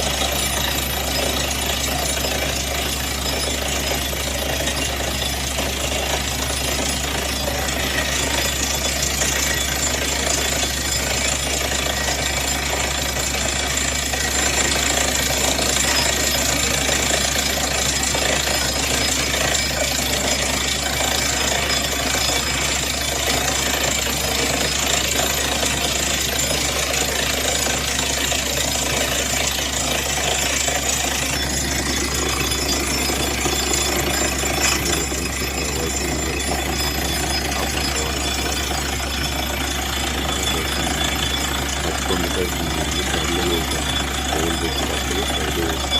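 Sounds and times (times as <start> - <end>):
drilling noise: 0.0 - 45.9
drilling rig engine hum: 0.0 - 45.9.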